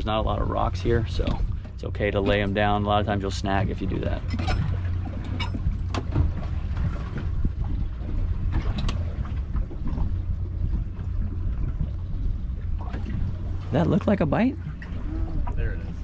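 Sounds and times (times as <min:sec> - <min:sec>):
boat engine rumble: 0:00.0 - 0:16.0
wind noise on microphone: 0:00.0 - 0:16.0.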